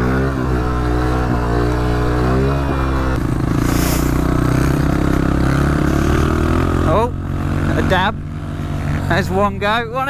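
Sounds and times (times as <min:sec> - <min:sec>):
motorbike engine revving hard: 0:00.0 - 0:09.8.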